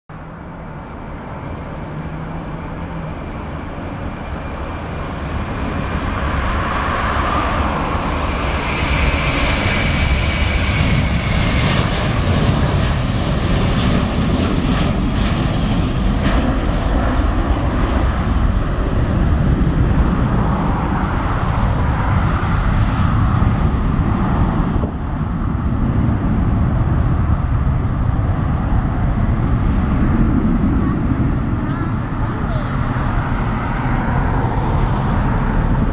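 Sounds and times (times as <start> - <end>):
high engine whine: 0.1 - 35.9
jet engines rumbling at takeoff: 0.1 - 35.9.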